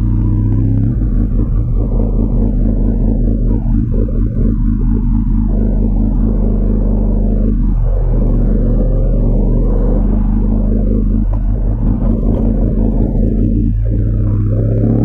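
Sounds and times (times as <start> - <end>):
motorcycle engine droning: 0.0 - 15.0.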